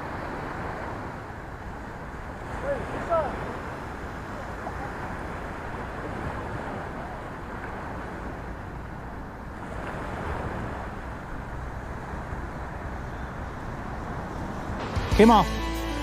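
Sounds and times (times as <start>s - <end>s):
rushing water: 0.0s - 16.0s
wind: 0.0s - 16.0s.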